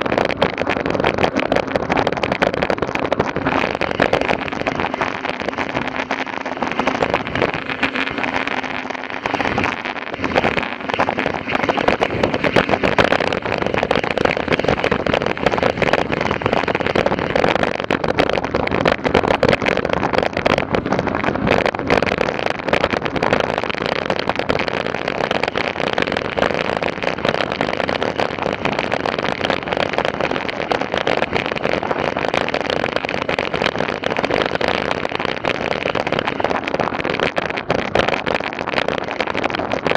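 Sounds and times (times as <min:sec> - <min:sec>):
bike tyres crunching and rattling: 0:00.0 - 0:39.9.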